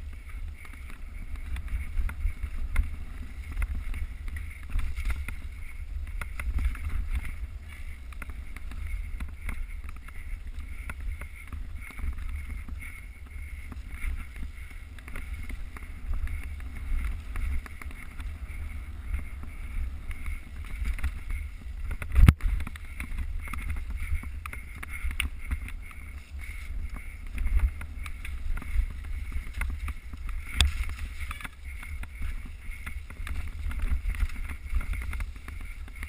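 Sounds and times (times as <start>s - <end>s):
bike knocks and rattles: 0.0s - 36.0s
wind rumble on microphone: 0.0s - 36.0s.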